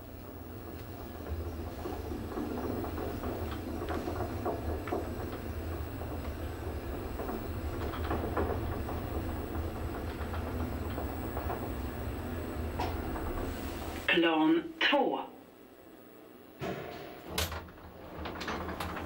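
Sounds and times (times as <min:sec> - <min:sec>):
elevator car rattles and clicks: 0:00.0 - 0:14.1, 0:16.6 - 0:19.0
elevator low hum: 0:00.0 - 0:19.0.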